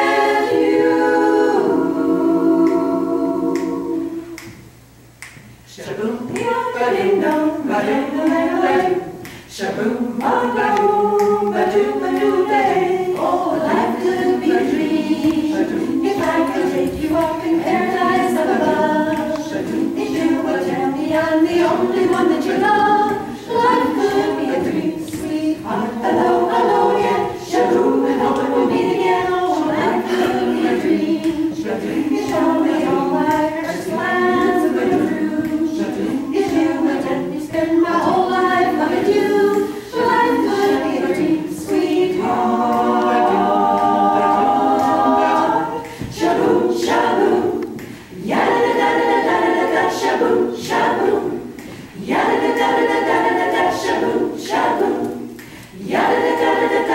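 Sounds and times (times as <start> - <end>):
women singing a cappella harmony: 0.0 - 56.9.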